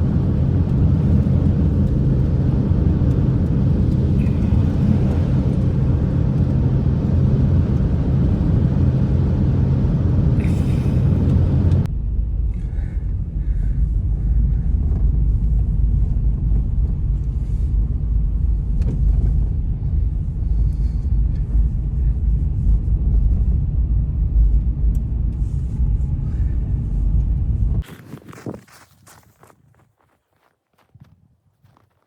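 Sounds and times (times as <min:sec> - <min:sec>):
deep steady rumble: 0:00.0 - 0:29.5.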